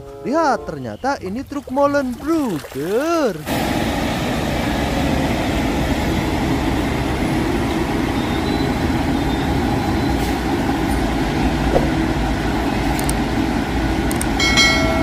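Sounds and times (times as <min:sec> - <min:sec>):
truck diesel engine passing: 0:00.0 - 0:15.0.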